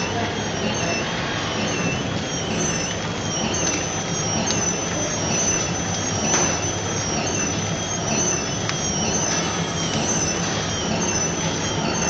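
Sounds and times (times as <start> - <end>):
high machine whine: 0.0 - 12.0
packing machine humming: 0.0 - 12.0.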